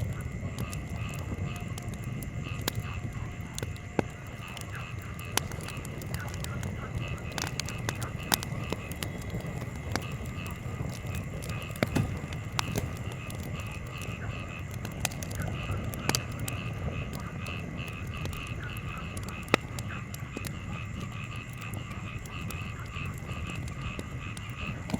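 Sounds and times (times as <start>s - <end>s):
campfire crackling and popping: 0.0s - 24.9s
frogs calling in pulsing rhythm: 0.0s - 24.9s.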